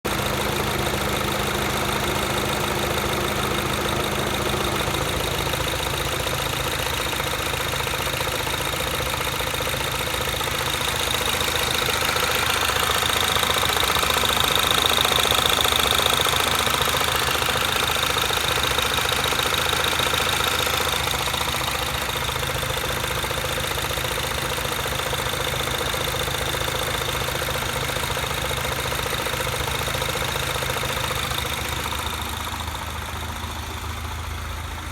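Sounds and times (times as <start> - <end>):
car engine idling with whine: 0.0 - 34.9.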